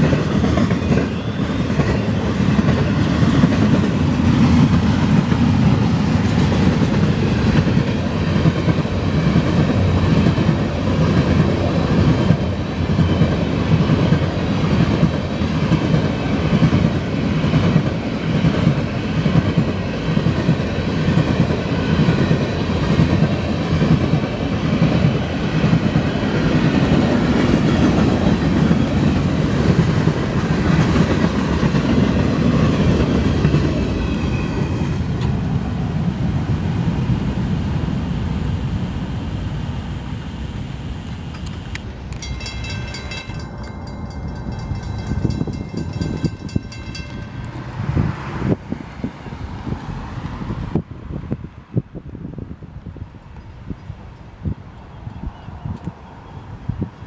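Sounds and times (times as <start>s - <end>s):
freight train cars rolling on rails: 0.0s - 51.4s.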